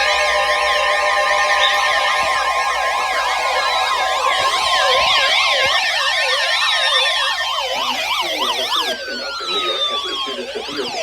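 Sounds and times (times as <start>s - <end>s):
sirens wailing: 0.0s - 11.0s.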